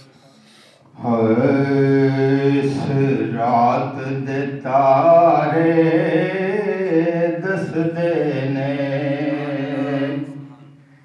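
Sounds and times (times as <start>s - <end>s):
man singing unaccompanied: 1.0s - 10.5s.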